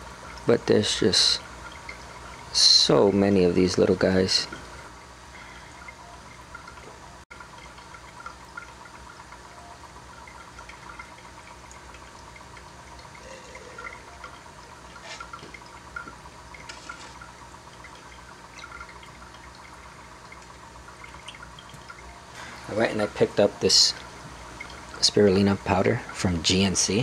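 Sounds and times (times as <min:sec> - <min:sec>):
aquarium air bubbling: 0:00.0 - 0:27.0
steady low hum: 0:00.0 - 0:27.0.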